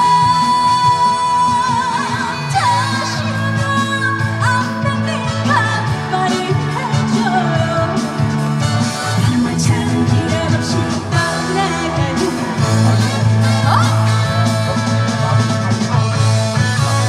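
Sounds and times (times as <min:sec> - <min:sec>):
woman singing: 0:00.0 - 0:15.3
instrumental backing: 0:00.0 - 0:17.0.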